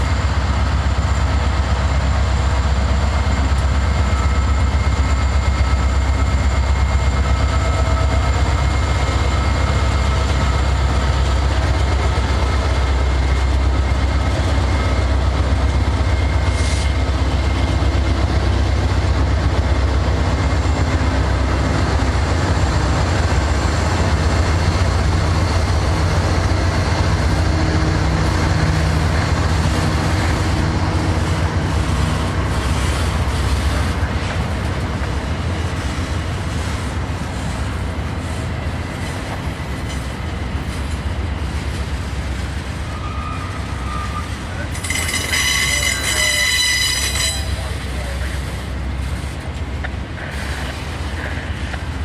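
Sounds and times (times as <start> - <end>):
diesel locomotive engines droning: 0.0 - 52.0
train cars rolling rumble: 0.0 - 52.0.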